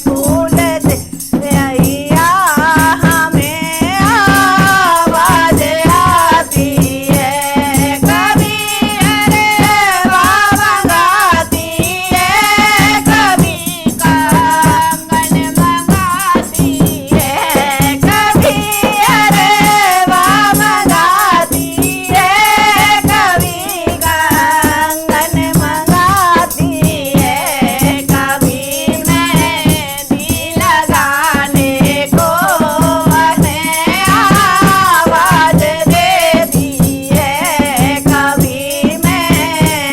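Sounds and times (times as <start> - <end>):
devotional singing: 0.0 - 39.9
fast percussion with shaker: 0.0 - 39.9.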